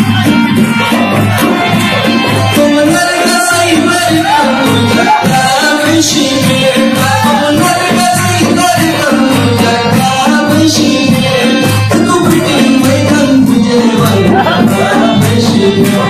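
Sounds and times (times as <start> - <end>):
dhol drum beat: 0.0 - 16.0
harmonium melody: 0.0 - 16.0
man singing: 2.3 - 16.0.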